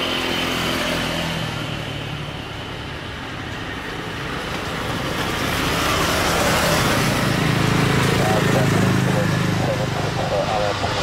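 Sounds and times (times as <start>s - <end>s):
jet engines rushing: 0.2s - 11.0s.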